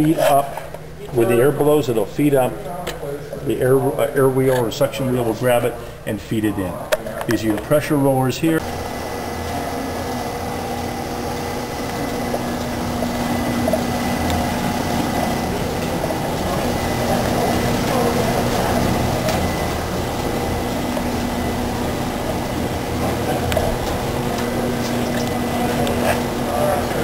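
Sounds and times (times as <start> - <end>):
machine humming: 0.0 - 27.0.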